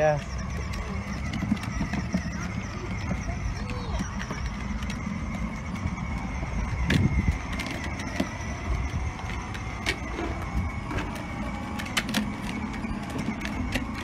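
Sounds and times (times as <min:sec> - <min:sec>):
electric motor whine: 0:00.0 - 0:14.0
plastic wheels rolling on asphalt: 0:00.0 - 0:14.0
toy motorcycle bump: 0:00.0 - 0:14.0.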